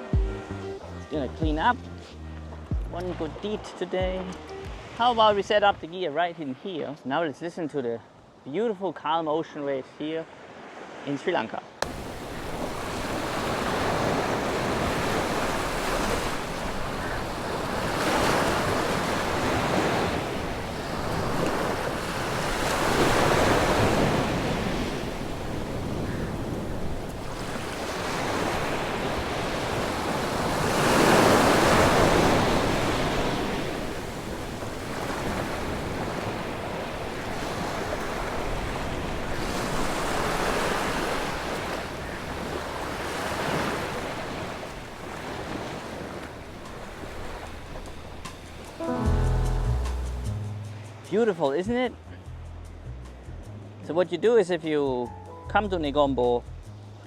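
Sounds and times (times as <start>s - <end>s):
ocean waves breaking on beach: 3.0s - 7.3s, 9.5s - 51.7s.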